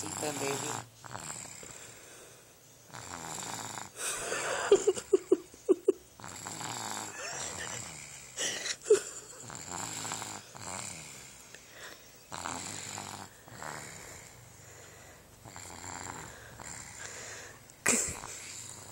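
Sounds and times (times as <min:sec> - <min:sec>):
snoring: 0:00.0 - 0:04.8, 0:06.2 - 0:18.9.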